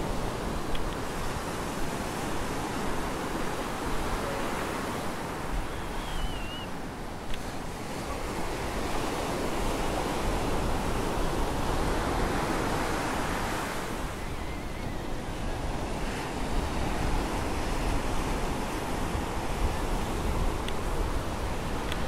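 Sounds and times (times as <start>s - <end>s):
ocean surf breaking on beach: 0.0s - 22.0s
wind rumbling on microphone: 0.0s - 22.0s.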